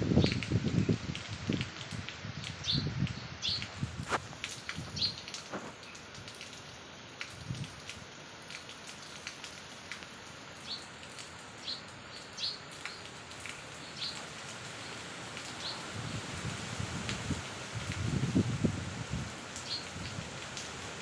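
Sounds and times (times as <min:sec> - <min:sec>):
rain drop clicks: 0:00.0 - 0:15.8, 0:16.9 - 0:21.0
steady rain hissing: 0:00.0 - 0:21.0.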